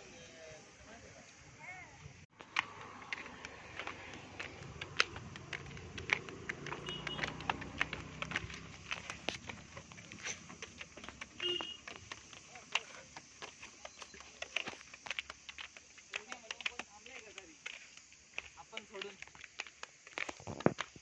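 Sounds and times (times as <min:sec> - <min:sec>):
footsteps on stone steps: 0:02.3 - 0:21.0.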